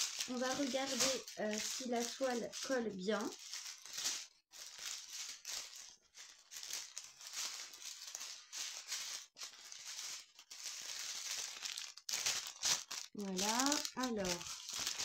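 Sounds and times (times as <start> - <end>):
plastic film crinkling: 0.0 - 15.0.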